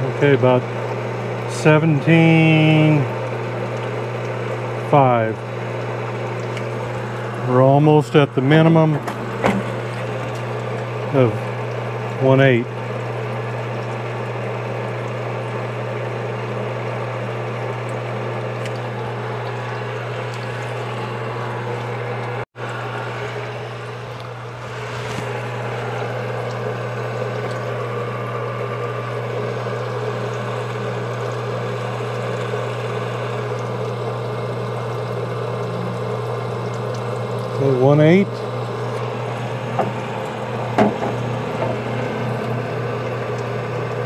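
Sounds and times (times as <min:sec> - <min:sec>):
honing machine humming: 0:00.0 - 0:44.0
oil pouring and splashing into tray: 0:02.3 - 0:16.8, 0:17.4 - 0:44.0.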